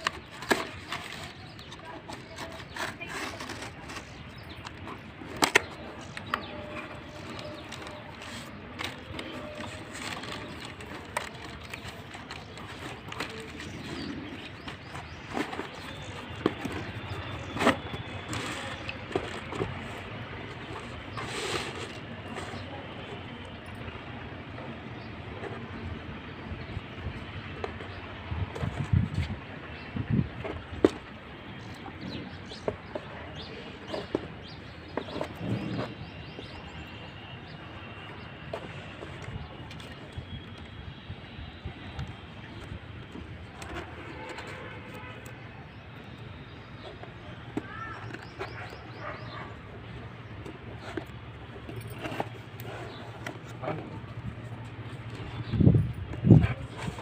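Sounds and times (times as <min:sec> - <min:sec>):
handling knocks and clicks: 0:00.0 - 0:23.7, 0:26.9 - 0:36.8, 0:41.9 - 0:45.4, 0:46.8 - 0:57.0
birds chirping: 0:00.0 - 0:57.0
steady background noise: 0:00.0 - 0:57.0.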